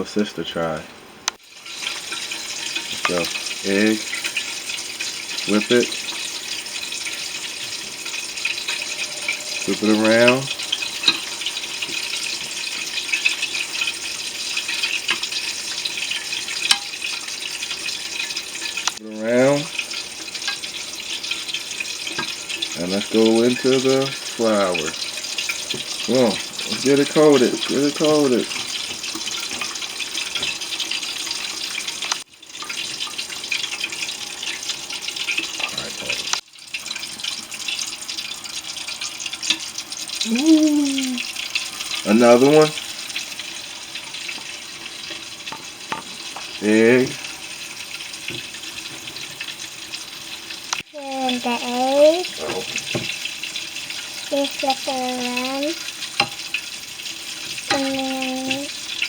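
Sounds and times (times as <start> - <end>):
wings deep-frying in grease: 0.0 - 59.0.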